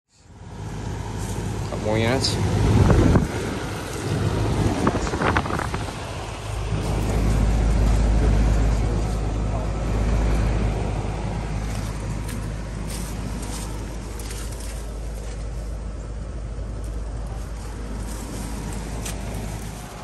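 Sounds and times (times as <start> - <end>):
heat pump fan humming: 0.2 - 20.0.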